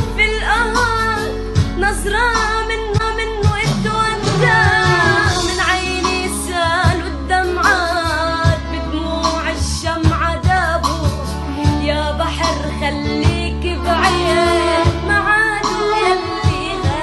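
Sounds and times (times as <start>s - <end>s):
instruments with steady beat: 0.0s - 17.0s.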